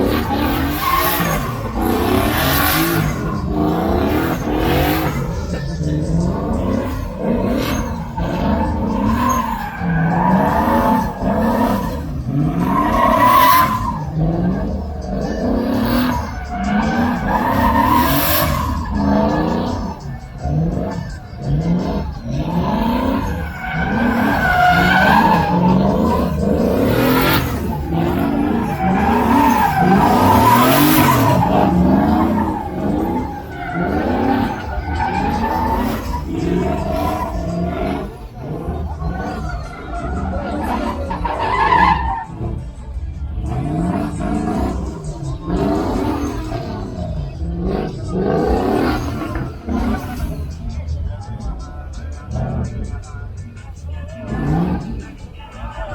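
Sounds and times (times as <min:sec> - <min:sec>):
truck engine revving: 0:00.0 - 0:55.9.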